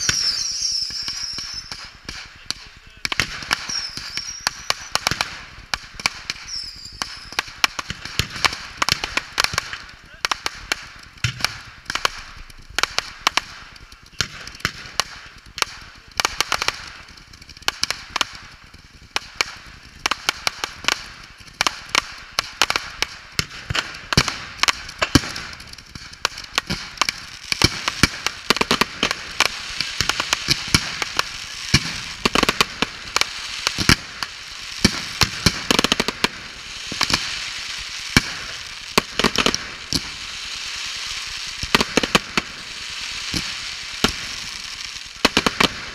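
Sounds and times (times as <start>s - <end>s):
fireworks cracking and banging: 0.0s - 45.9s
fireworks hissing: 0.0s - 45.9s.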